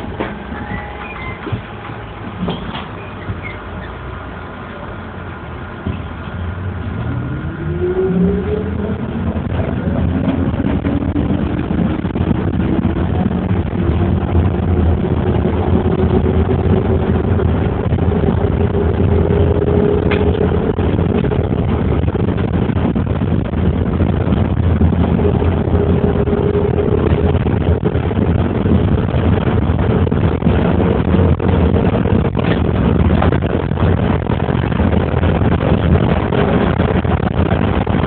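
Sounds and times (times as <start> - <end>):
vehicle engine and road noise: 0.0 - 38.0
rising whine: 6.2 - 38.0.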